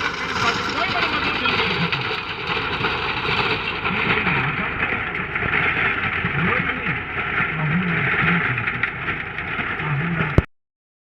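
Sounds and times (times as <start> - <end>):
tractor engine pulling a rotavator: 0.0 - 10.5.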